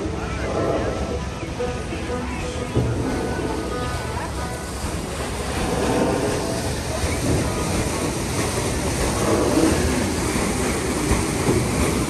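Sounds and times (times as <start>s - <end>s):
faint voices: 0.0s - 12.0s
paddlewheel boat churning: 0.0s - 12.0s
water noise: 0.0s - 12.0s.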